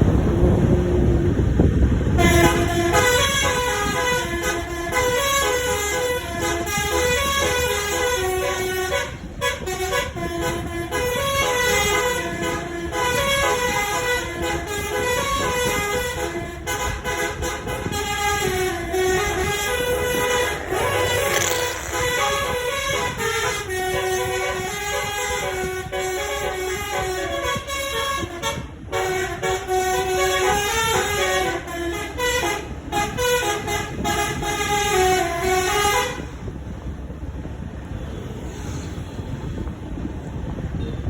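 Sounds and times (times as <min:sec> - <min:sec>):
multi-tone bus horn tune: 0:00.0 - 0:37.4
bus running noise: 0:00.0 - 0:41.0
wind on microphone: 0:00.0 - 0:41.0.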